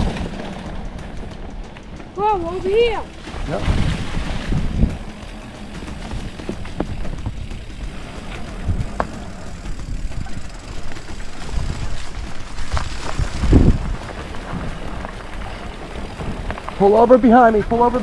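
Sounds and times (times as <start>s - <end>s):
bike clicks and knocks: 0.0s - 3.4s, 4.2s - 18.0s
bike tyre rumble on gravel: 0.0s - 18.0s
wind rumbling on microphone: 0.0s - 18.0s.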